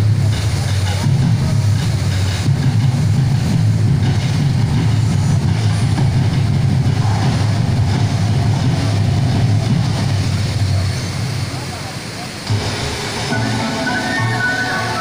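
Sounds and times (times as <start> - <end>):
faint hiss: 0.0 - 15.0
steady low rumble: 0.0 - 15.0.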